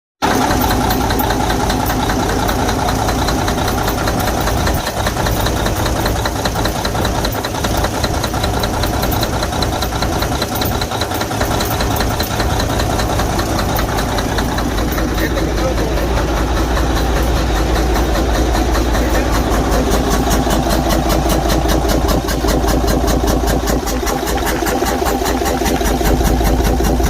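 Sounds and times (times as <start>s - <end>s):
diesel engine idling with ticking: 0.2s - 27.0s.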